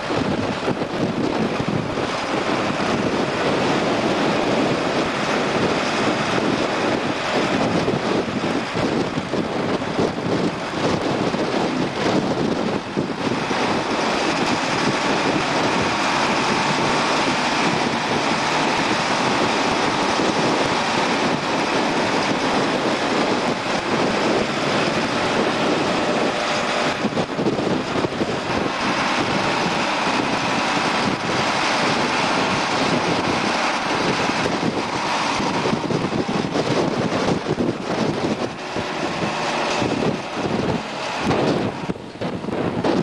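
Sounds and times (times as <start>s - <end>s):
potato harvester mechanical noise: 0.0s - 43.0s.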